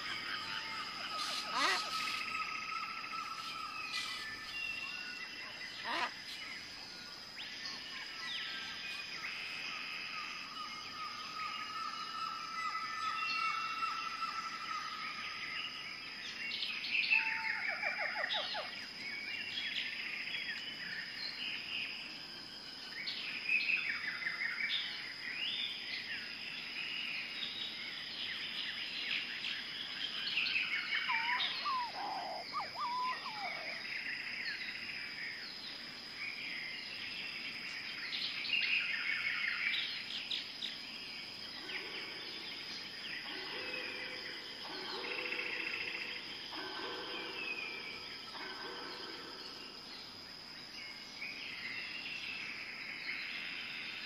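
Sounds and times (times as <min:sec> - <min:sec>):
birds chirping and trilling: 0:00.0 - 0:54.0
high insect hum: 0:00.0 - 0:54.0.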